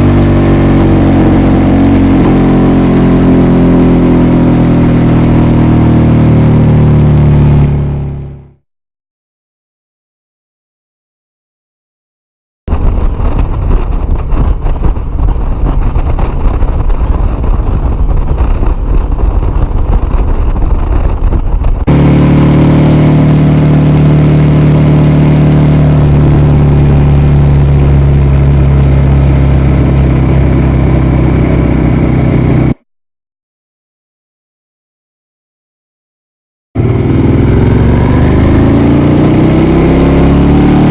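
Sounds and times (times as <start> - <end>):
motorcycle engine running: 0.0 - 8.6, 12.7 - 32.8, 36.8 - 40.9.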